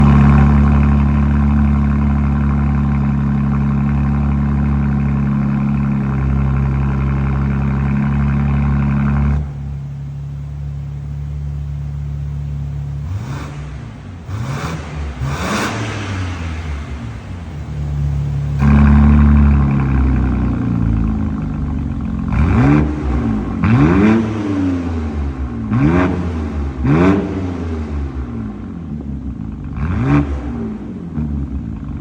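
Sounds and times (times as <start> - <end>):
car engine idling: 0.0 - 32.0
engine throttle blips: 0.0 - 32.0.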